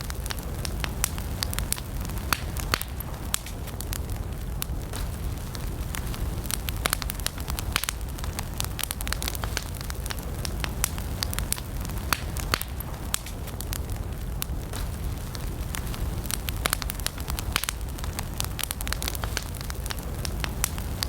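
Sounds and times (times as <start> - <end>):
campfire crackles and pops: 0.0 - 21.0
low rumble of flames: 0.0 - 21.0.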